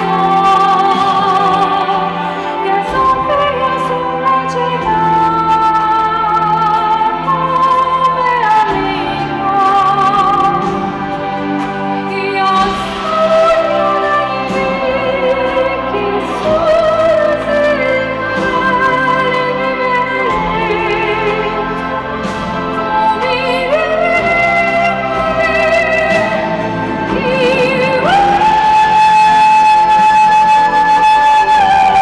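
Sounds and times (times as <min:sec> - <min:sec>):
instrumental backing: 0:00.0 - 0:32.0
woman singing operatically: 0:00.0 - 0:32.0.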